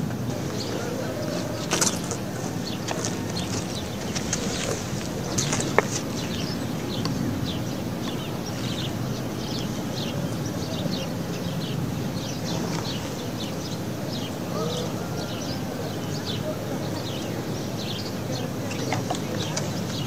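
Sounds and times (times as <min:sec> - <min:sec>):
small birds chirping: 0:00.0 - 0:20.0
steady background rumble: 0:00.0 - 0:20.0.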